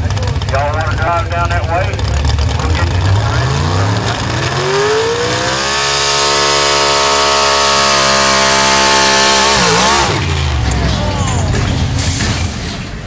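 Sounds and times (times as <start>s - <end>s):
truck engine at full throttle: 0.0s - 13.0s.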